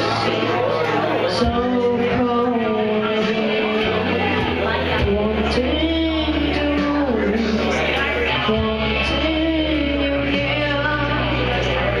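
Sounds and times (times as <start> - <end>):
boy singing into a microphone: 1.2 - 12.0.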